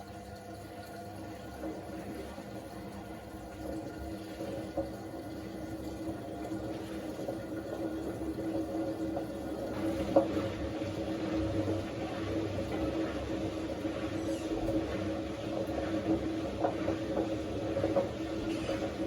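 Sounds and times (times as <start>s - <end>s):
washing machine hum: 0.0s - 19.0s
water running in washing machine: 0.0s - 19.0s.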